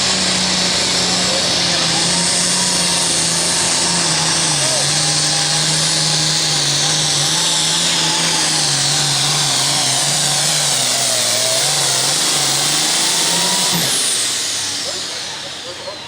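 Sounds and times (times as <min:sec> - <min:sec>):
diesel tractor engine under load: 0:00.0 - 0:16.0.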